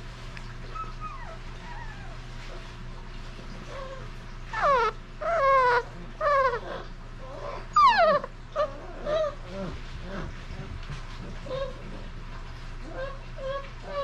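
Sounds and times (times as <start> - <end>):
puppy whining: 0.6 - 2.7, 3.6 - 12.1, 12.8 - 14.0.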